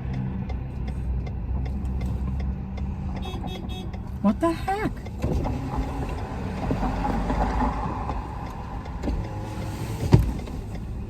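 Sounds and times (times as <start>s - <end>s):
truck road and engine rumble: 0.0s - 11.0s.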